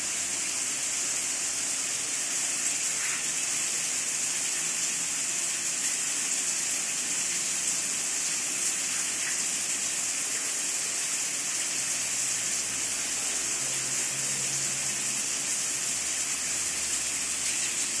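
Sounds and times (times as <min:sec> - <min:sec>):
rushing water hiss: 0:00.0 - 0:18.0.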